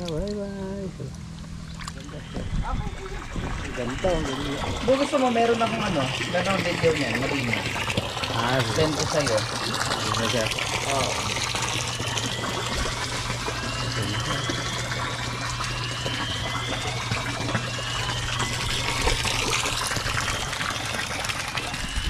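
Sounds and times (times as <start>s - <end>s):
faint rising whine: 0.0s - 22.0s
low steady hum: 0.0s - 22.0s
water gushing: 0.0s - 22.0s.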